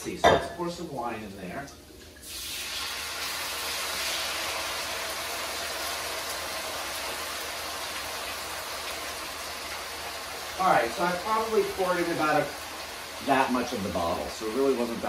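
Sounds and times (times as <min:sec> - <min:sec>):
wine sizzling in hot skillet: 0:00.0 - 0:15.0.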